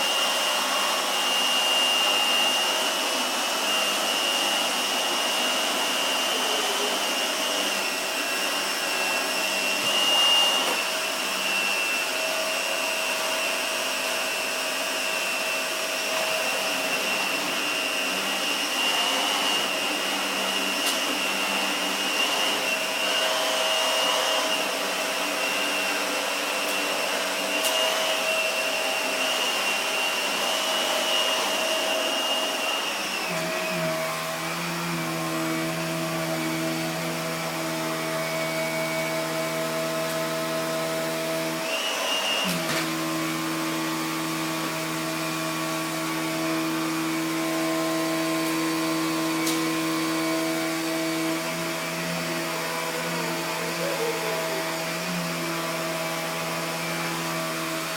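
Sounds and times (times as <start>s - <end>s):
vacuum cleaner motor whining: 0.0s - 57.9s.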